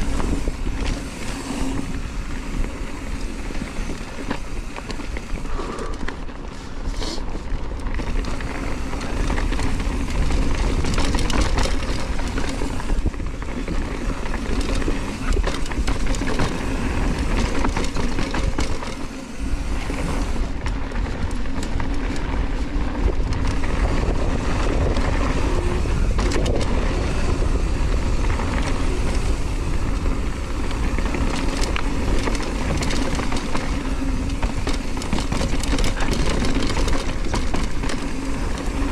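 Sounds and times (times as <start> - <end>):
bike chain rattling: 0.0 - 38.9
bike tyres crunching over stones: 0.0 - 38.9
wind rumble: 0.0 - 38.9.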